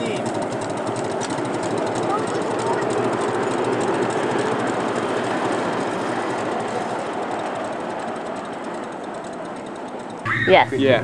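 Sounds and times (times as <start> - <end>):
steam locomotive exhaust and wheels: 0.0 - 11.0.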